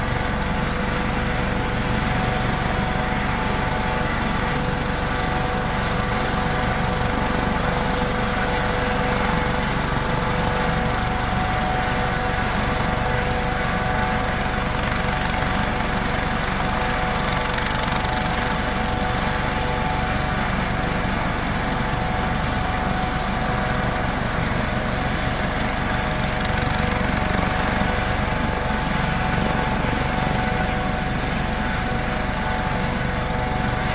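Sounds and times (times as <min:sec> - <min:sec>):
constant high whine: 0:00.0 - 0:33.9
helicopter rotor noise: 0:00.0 - 0:33.9.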